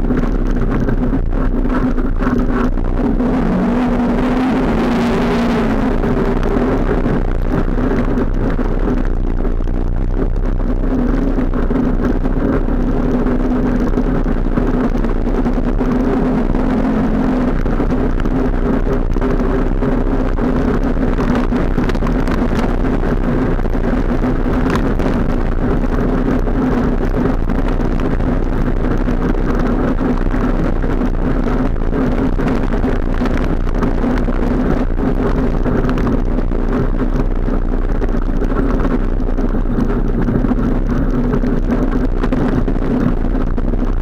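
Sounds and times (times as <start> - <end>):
atv engine running: 0.0 - 44.0
wind noise on microphone: 0.0 - 44.0.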